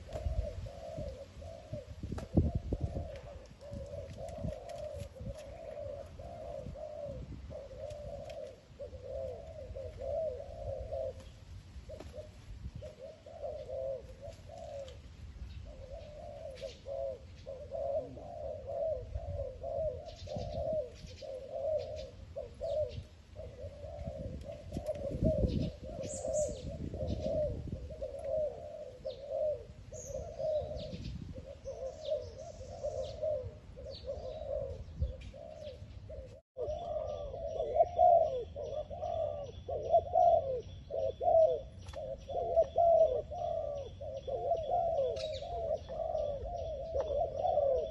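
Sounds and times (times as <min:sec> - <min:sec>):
doves cooing: 0:00.0 - 0:47.9.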